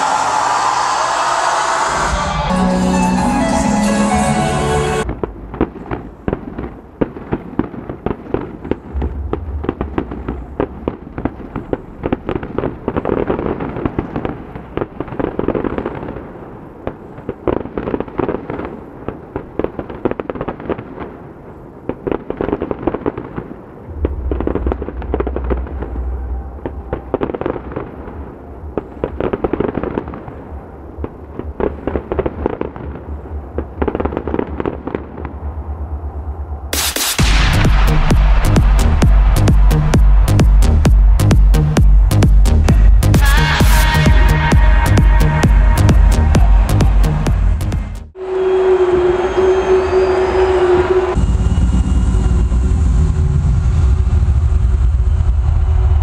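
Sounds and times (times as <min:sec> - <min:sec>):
fireworks bangs and crackles: 0:05.0 - 0:56.0.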